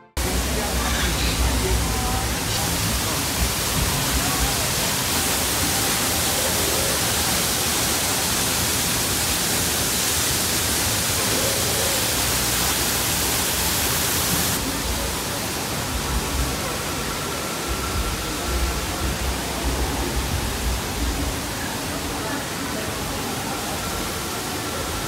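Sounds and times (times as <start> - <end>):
faint voices: 0.0 - 13.8, 14.4 - 25.0
steady rushing noise: 0.2 - 25.0.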